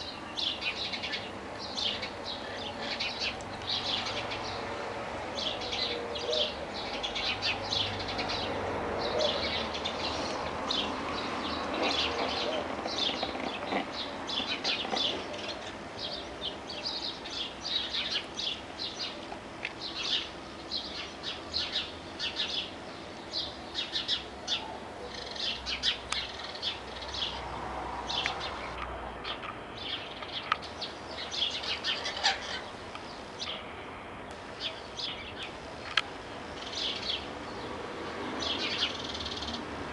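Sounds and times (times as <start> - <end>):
small birds chirping: 0.0 - 4.7, 5.3 - 39.7.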